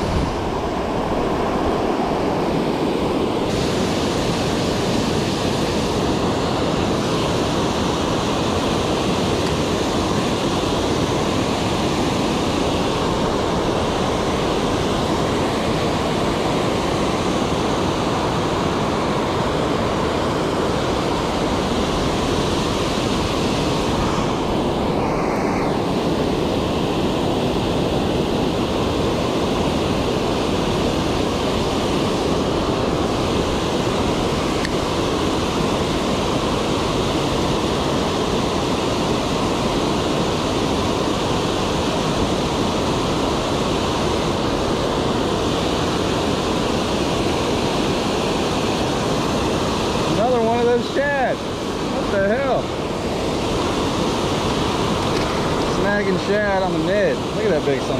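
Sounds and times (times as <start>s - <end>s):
water rushing over spillway: 0.0s - 57.9s.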